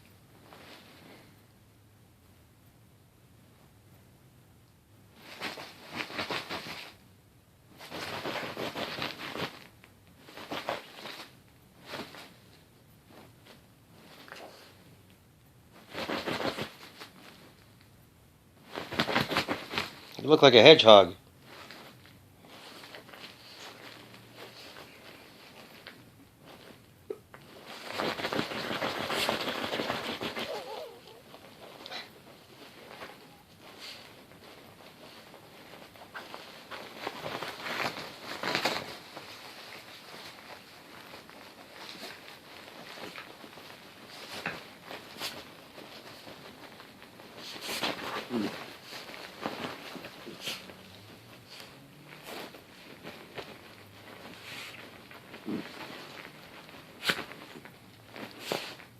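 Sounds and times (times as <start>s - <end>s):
dog scuffling against fabric: 0.3s - 1.3s, 5.1s - 7.0s, 7.7s - 14.9s, 15.7s - 17.8s, 18.6s - 20.2s, 21.4s - 58.9s.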